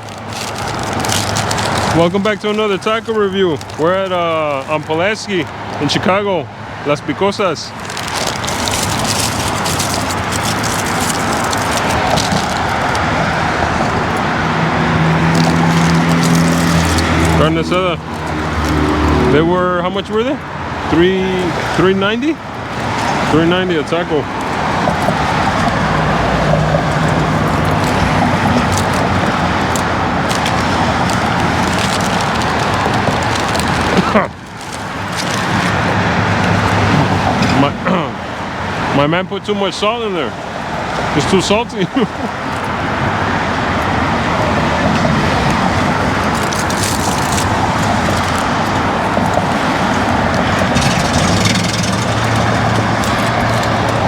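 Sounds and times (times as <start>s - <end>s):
road vehicle rushing: 0.0s - 54.0s.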